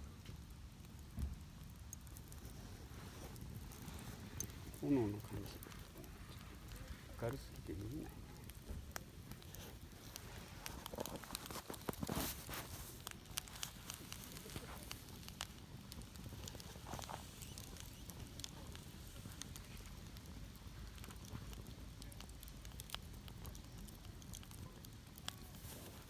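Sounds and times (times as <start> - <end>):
campfire pops and snaps: 0.0 - 26.0
low noise of flames: 0.0 - 26.0.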